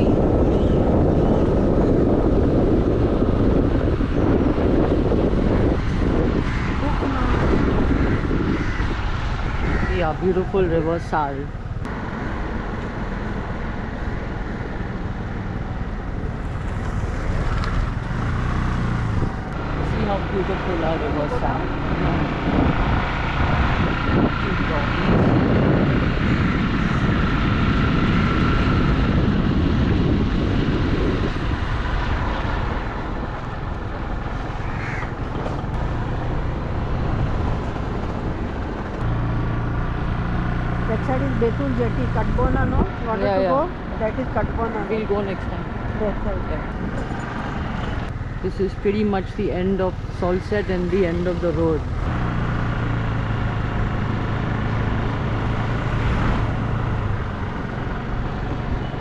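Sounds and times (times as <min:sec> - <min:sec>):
motorbike road noise: 0:00.0 - 0:59.0
wind rush on microphone: 0:00.0 - 0:59.0.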